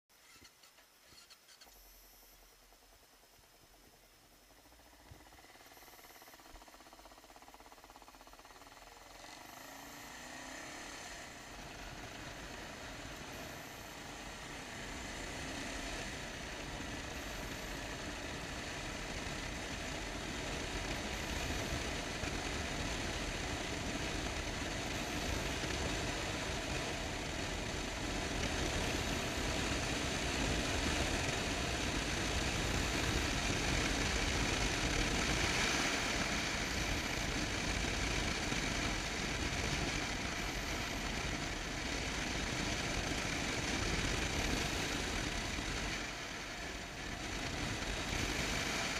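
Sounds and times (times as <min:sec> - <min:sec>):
motorcycle engine running: 0:00.2 - 0:48.9.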